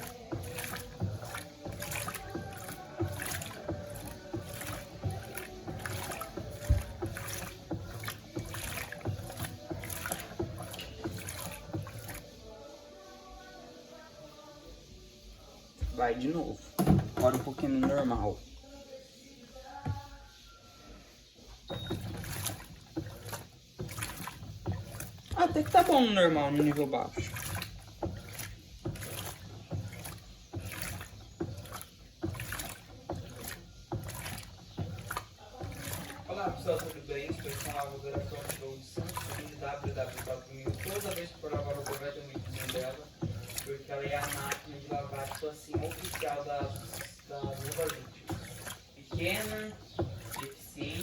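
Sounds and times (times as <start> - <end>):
washing machine water sloshing: 0.0 - 51.0.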